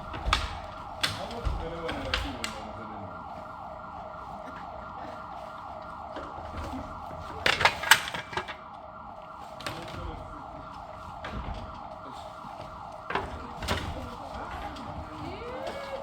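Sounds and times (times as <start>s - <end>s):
emergency siren yelping: 0.0s - 16.0s.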